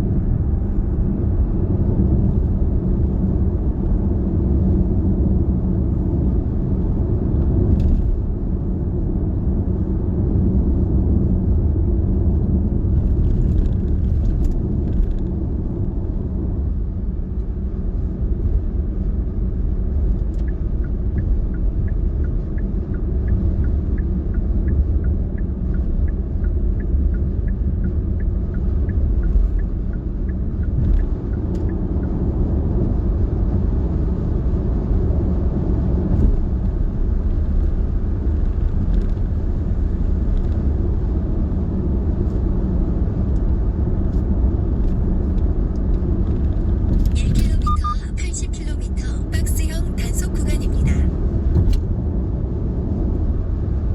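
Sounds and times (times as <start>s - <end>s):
car road noise: 0.0s - 53.9s.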